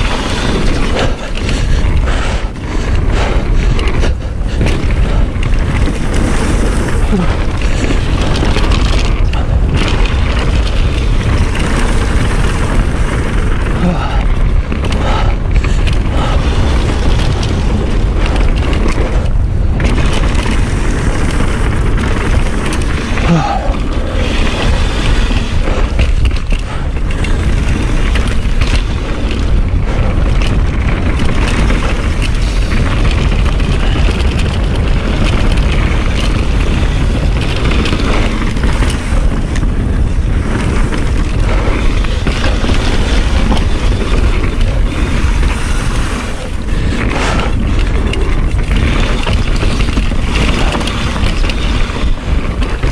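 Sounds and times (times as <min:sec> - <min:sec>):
bike rattling over rough ground: 0:00.0 - 0:52.9
tyre roar: 0:00.0 - 0:52.9
wind rumble on microphone: 0:00.0 - 0:52.9.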